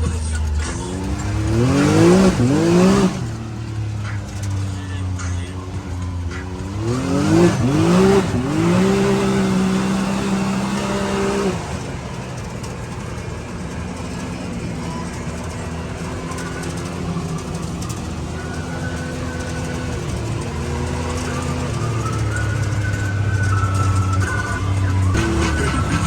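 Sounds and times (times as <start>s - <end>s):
engine accelerating: 0.0s - 26.0s.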